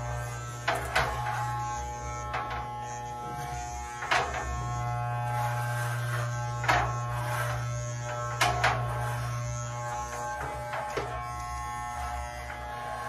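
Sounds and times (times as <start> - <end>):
electric hair clipper buzzing: 0.0 - 13.0.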